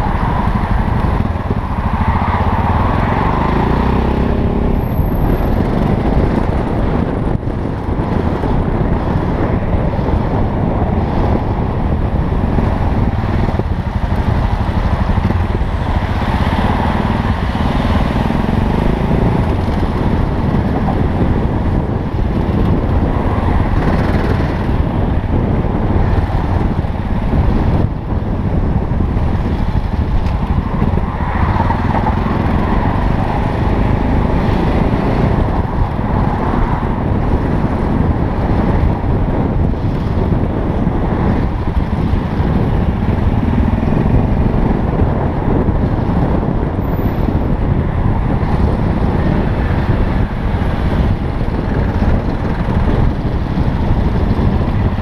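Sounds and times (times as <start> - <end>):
motorcycle engine running: 0.0 - 55.0
traffic road noise: 0.0 - 55.0.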